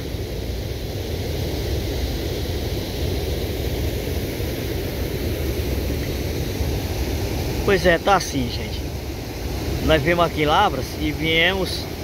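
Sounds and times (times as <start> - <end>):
river water over rapids: 0.1 - 12.0.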